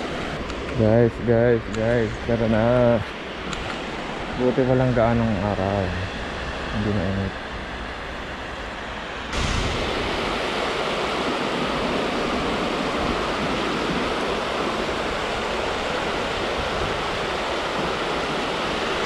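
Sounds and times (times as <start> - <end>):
water rushing over a weir: 0.0 - 19.0.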